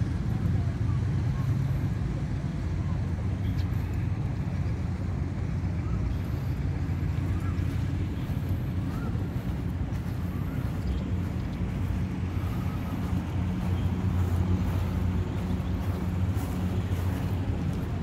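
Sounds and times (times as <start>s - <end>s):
street traffic engine rumble: 0.0s - 18.0s.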